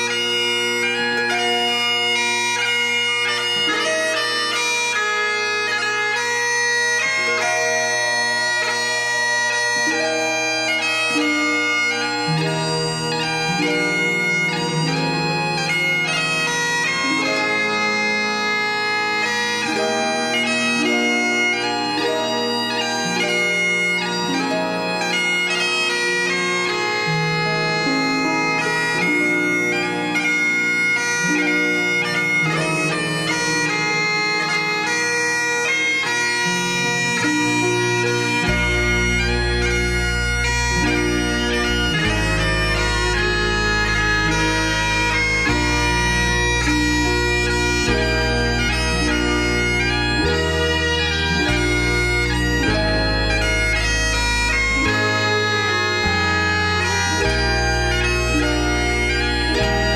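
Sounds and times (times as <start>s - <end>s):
bagpipe tune over drones: 0.0s - 59.9s.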